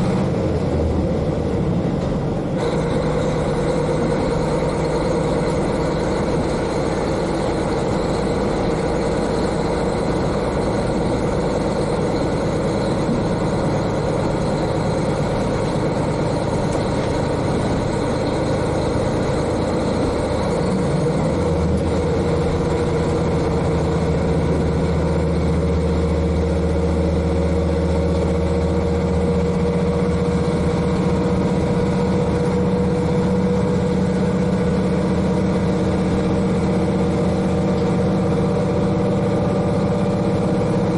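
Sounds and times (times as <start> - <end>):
deep rumble: 0.0 - 40.9
diesel railcar engine running: 0.0 - 40.9.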